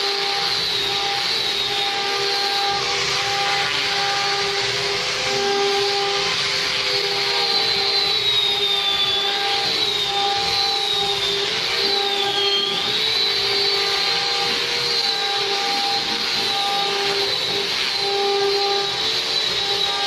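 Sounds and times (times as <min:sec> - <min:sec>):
sawmill saw whining: 0:00.0 - 0:20.0.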